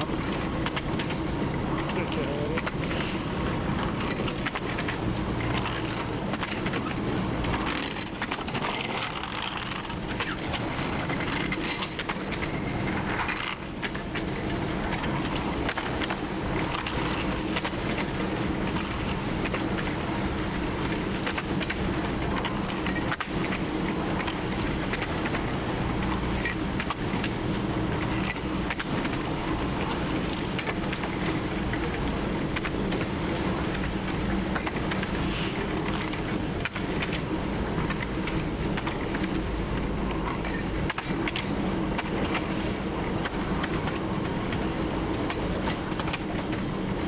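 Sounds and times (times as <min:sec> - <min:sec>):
diesel locomotive engine running: 0:00.0 - 0:47.0.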